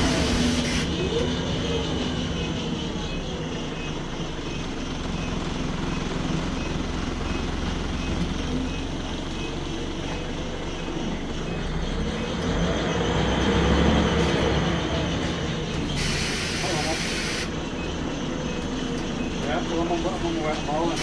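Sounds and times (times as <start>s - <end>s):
bus engine revving: 0.0s - 21.0s.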